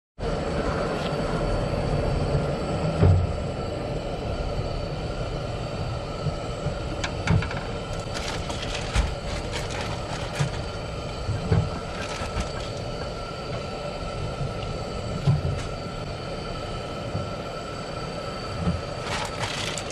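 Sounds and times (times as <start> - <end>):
mechanical hum with high tones: 0.2 - 19.9.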